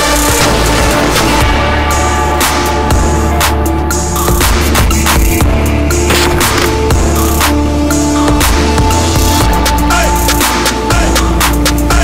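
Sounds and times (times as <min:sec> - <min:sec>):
background music with bass and drums: 0:00.0 - 0:12.0.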